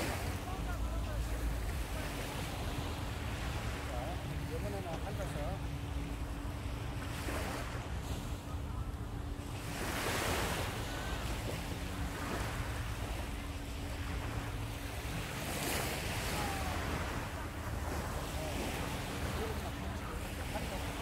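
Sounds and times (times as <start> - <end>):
surf washing onto beach: 0.0 - 21.0.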